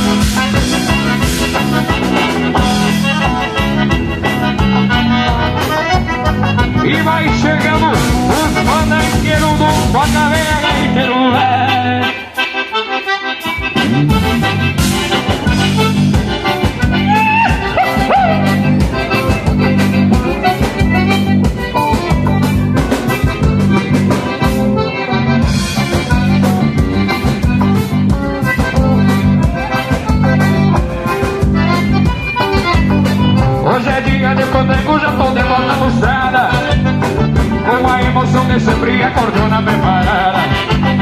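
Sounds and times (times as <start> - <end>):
accordion melody: 0.0 - 41.0
live dance band playing: 0.0 - 41.0.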